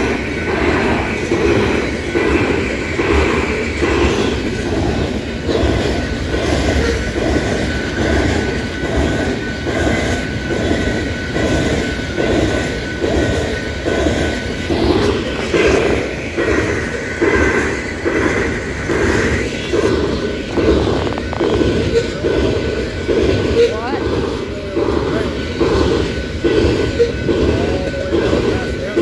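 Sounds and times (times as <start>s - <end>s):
train wheels clacking over rail joints: 0.0s - 29.0s.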